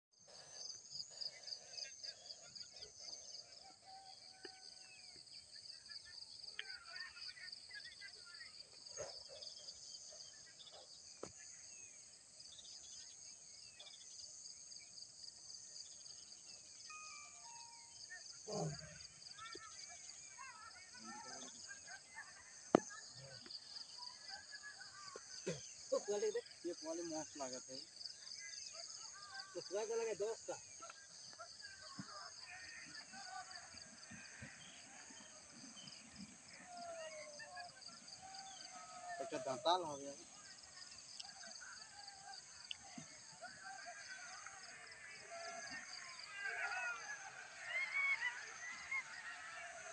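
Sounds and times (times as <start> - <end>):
insects trilling: 0.2 - 49.9.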